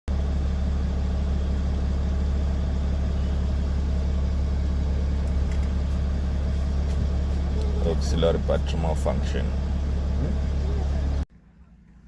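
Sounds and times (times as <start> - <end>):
car engine idling: 0.1 - 12.0.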